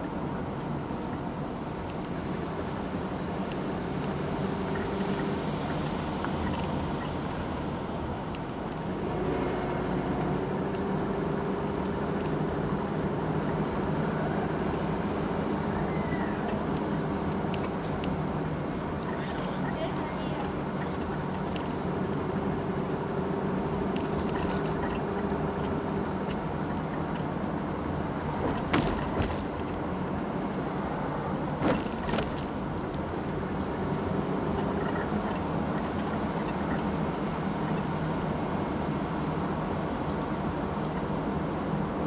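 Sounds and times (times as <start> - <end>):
car engine hum: 0.0 - 42.0
road noise: 0.0 - 42.0.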